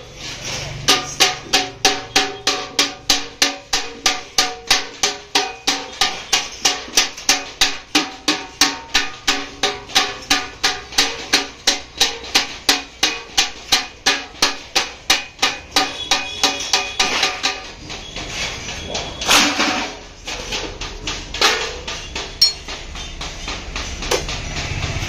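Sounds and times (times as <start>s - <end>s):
hammer striking metal tub: 0.8s - 17.9s, 18.8s - 24.6s.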